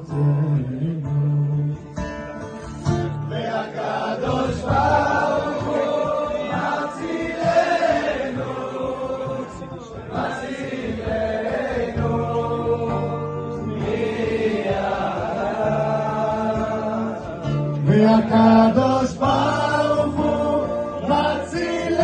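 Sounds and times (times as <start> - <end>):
music: 0.0 - 22.0
people singing together: 3.0 - 22.0.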